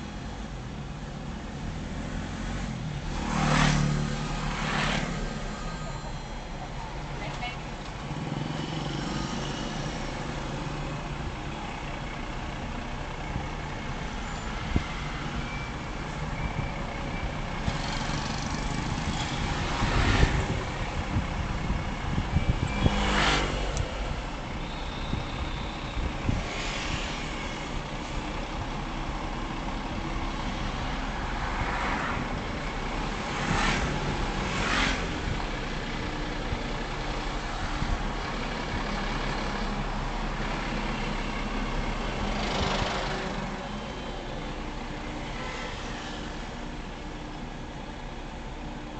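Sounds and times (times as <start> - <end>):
traffic rumble: 0.0 - 48.9
vehicles passing close by: 0.0 - 48.9.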